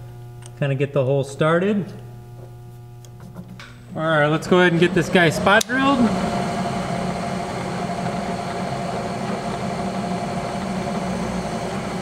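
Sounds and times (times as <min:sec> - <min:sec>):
milling machine humming: 0:02.0 - 0:12.0.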